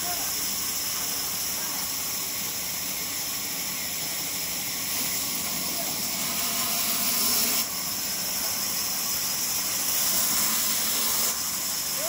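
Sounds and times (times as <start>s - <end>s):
sawmill machinery hissing: 0.0s - 12.0s.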